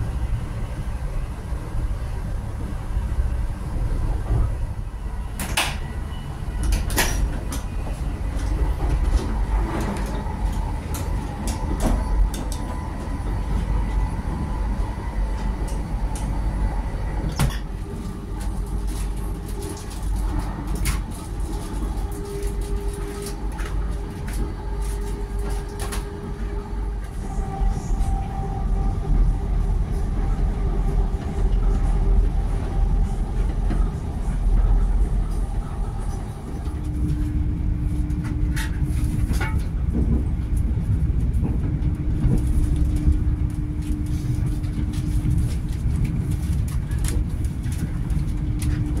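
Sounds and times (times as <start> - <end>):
train interior rumble: 0.0 - 49.0.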